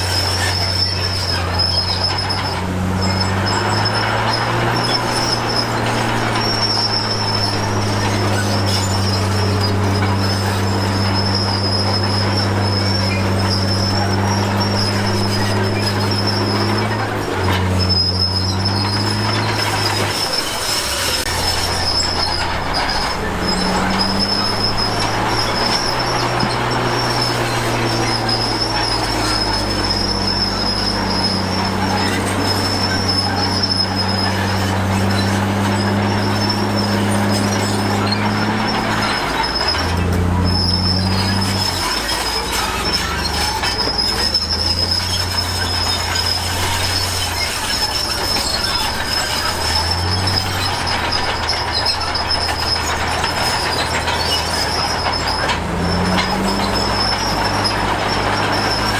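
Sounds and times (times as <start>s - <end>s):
bulldozer diesel engine running: 0.0s - 58.9s
steel tracks squealing: 0.0s - 58.9s.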